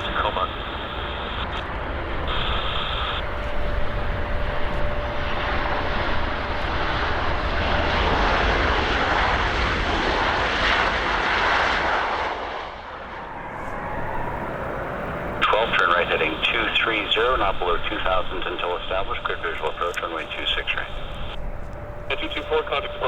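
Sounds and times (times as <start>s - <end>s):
thin steady whine: 0.0s - 10.4s, 12.6s - 23.0s
jet engines passing overhead: 0.0s - 23.0s.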